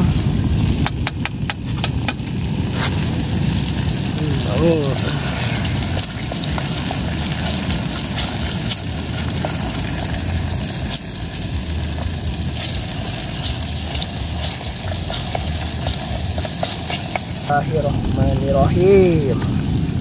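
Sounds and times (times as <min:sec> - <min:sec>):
low rumble: 0:00.0 - 0:20.0
shrimp sizzling in oil: 0:00.0 - 0:20.0.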